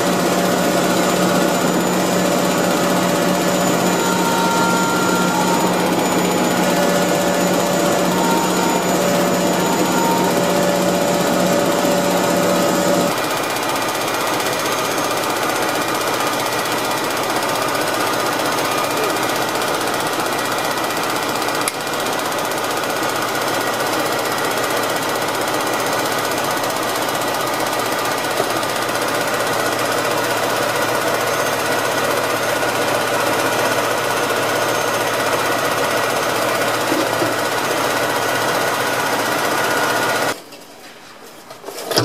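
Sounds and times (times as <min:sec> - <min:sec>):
air compressor running: 0:00.0 - 0:40.4
truck diesel engine idling: 0:00.0 - 0:40.4.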